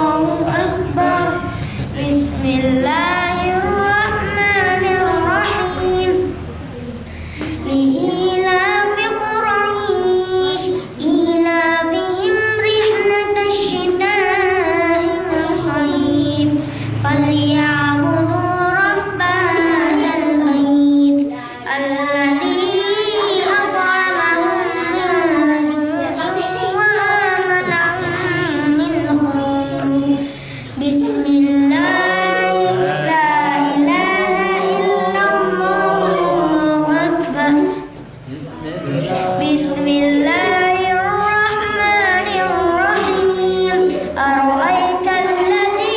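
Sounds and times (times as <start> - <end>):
boy chanting melodic recitation: 0.0 - 45.9.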